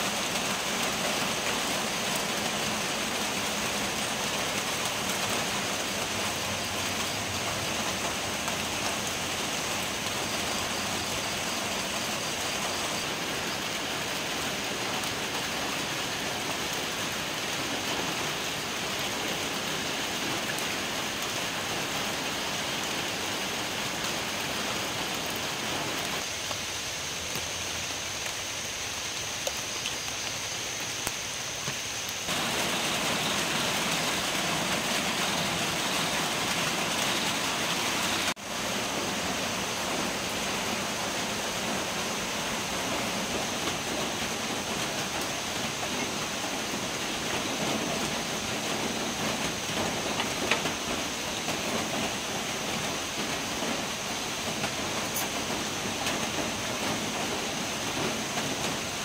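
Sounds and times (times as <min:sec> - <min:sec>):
rain falling on grass and water: 0:00.0 - 0:59.0.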